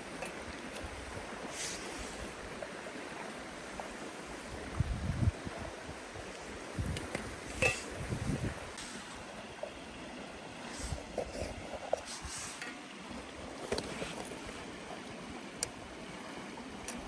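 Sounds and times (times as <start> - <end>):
river flowing: 0.0 - 4.8, 5.4 - 17.0.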